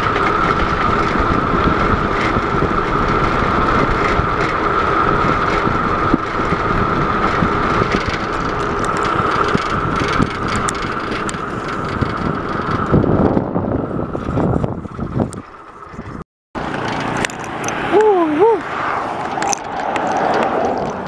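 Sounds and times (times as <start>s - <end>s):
bicycle tyres humming on asphalt: 0.0s - 21.0s
wind rushing over microphone: 0.0s - 21.0s.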